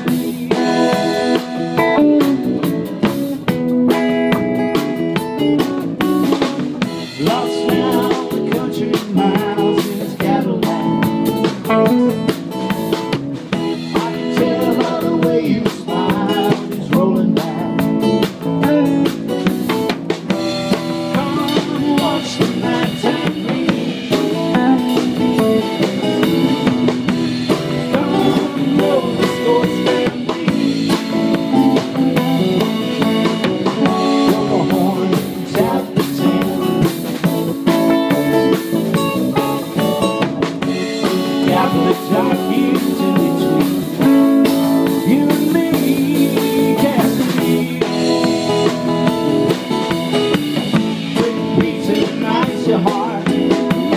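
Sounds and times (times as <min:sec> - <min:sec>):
acoustic guitar: 0:00.0 - 0:53.9
bass guitar: 0:00.0 - 0:53.9
drum kit beat: 0:00.0 - 0:53.9
electric guitar: 0:00.0 - 0:53.9.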